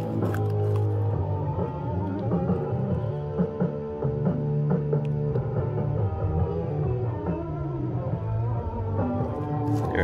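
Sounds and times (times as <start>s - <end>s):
guitar music from a speaker: 0.0s - 10.0s.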